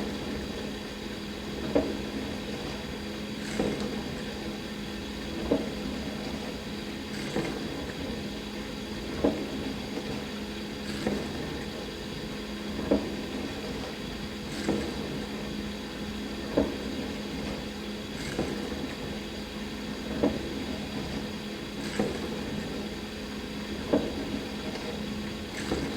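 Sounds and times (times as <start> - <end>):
dishwasher pump hum: 0.0 - 25.9.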